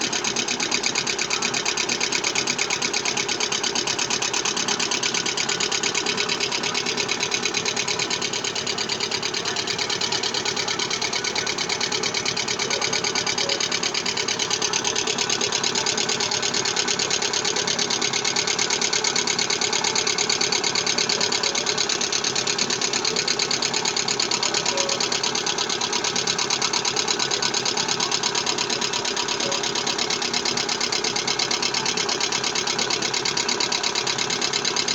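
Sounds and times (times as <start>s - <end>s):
car engine knocking rattle: 0.0s - 34.9s.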